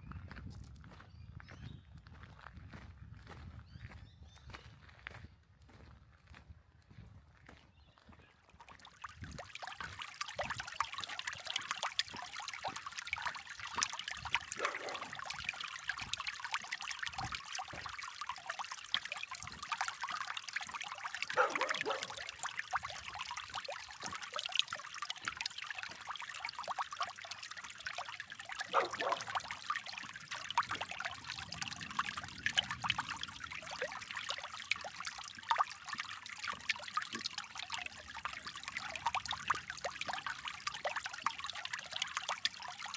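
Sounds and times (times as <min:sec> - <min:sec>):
creek water babbling over stones: 0:08.4 - 0:42.9.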